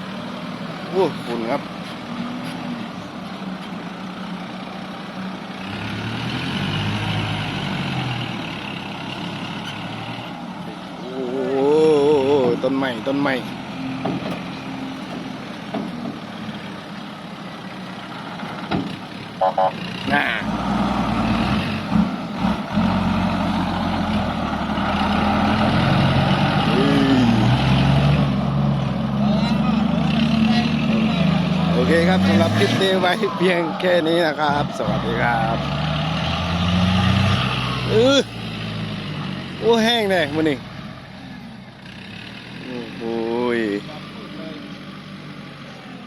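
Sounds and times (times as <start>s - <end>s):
diesel truck engine revving: 0.0s - 46.0s.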